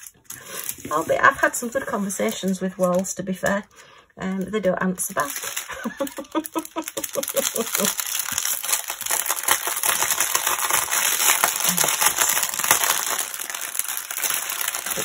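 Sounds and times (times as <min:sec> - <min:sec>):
small packets rattling: 0:00.0 - 0:03.1, 0:05.0 - 0:15.0
plastic packaging crinkling: 0:00.0 - 0:03.2, 0:04.4 - 0:15.0.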